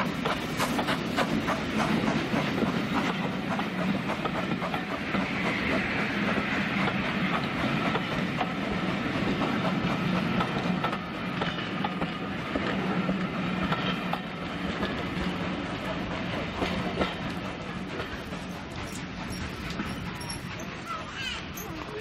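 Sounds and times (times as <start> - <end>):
train wheels rumbling: 0.0 - 22.0
wheels clicking over rail joints: 0.0 - 22.0.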